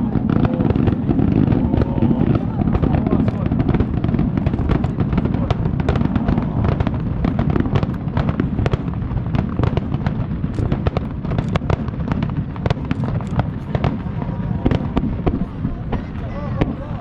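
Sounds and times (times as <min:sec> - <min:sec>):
fireworks barrage: 0:00.0 - 0:17.0.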